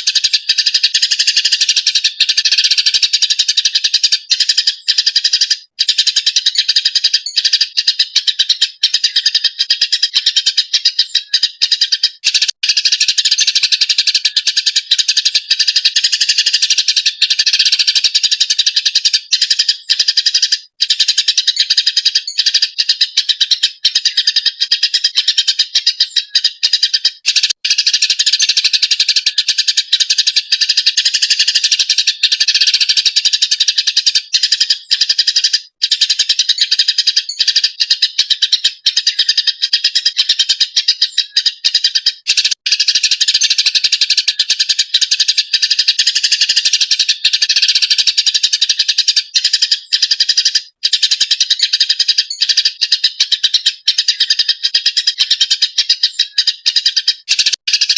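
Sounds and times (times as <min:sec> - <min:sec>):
sparrow chattering: 0:00.0 - 0:57.9.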